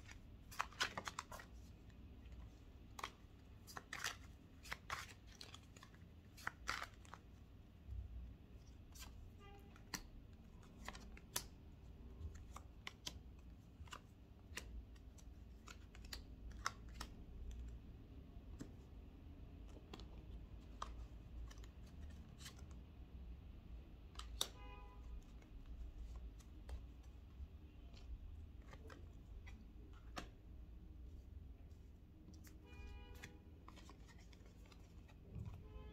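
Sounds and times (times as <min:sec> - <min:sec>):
cards being shuffled: 0:00.0 - 0:07.2, 0:08.7 - 0:17.8, 0:19.5 - 0:22.8, 0:24.1 - 0:30.4, 0:31.1 - 0:35.6.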